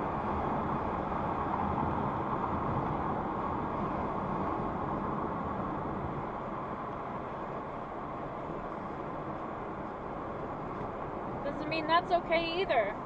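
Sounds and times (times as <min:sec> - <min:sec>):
car road noise from inside cabin: 0:00.0 - 0:13.0.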